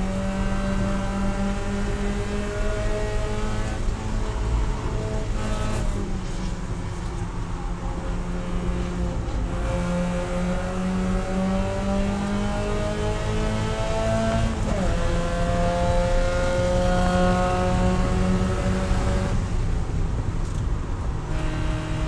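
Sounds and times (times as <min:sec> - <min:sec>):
car engine revving high: 0:00.0 - 0:06.1, 0:08.2 - 0:19.4, 0:21.2 - 0:22.0.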